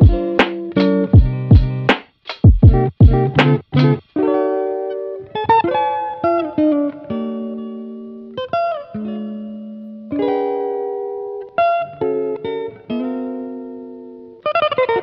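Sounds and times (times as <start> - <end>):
guitar picking notes and chords: 0.0 - 15.0.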